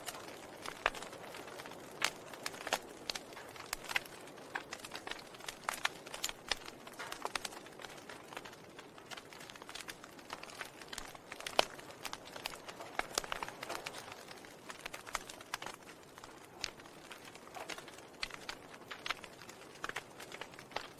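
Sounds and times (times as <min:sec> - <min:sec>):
faint fire hiss: 0:00.0 - 0:20.9
wood fire crackling: 0:00.0 - 0:20.9.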